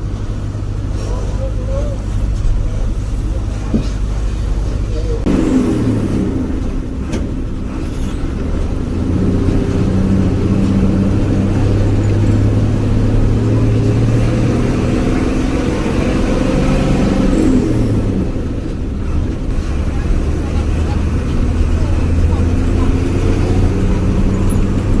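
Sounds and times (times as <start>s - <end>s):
bus engine droning: 0.0s - 25.0s.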